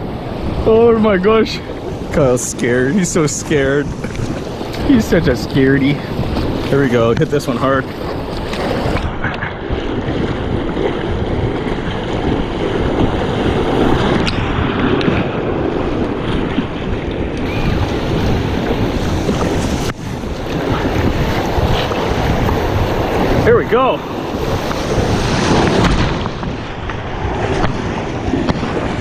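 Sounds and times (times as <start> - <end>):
whitewater rushing and splashing: 0.0 - 29.0
wind buffeting microphone: 0.0 - 29.0.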